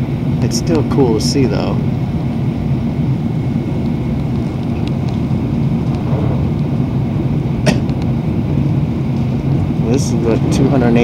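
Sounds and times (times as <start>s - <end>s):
train rumbling at speed: 0.0s - 11.0s.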